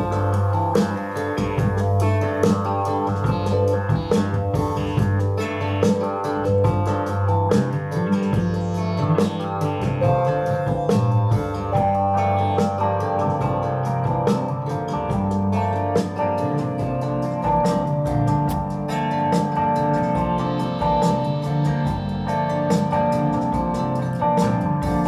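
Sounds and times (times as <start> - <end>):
music with guitar and drums: 0.0 - 25.0.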